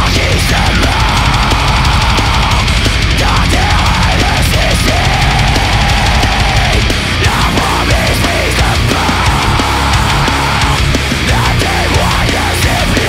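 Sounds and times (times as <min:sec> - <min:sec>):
distorted guitars: 0:00.0 - 0:13.0
drum kit playing: 0:00.0 - 0:13.0.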